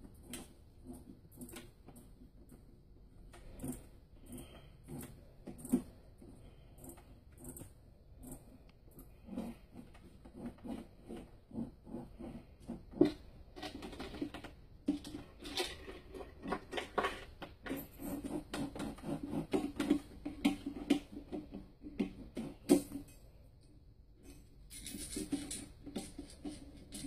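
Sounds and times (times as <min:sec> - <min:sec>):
wrist roller clicking and creaking: 0:00.0 - 0:27.0.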